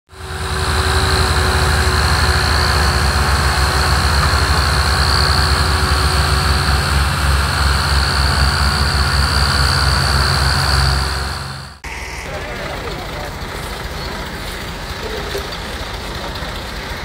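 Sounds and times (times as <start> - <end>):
steady high whine: 0.1 - 17.0
tractor engines straining: 0.1 - 17.0.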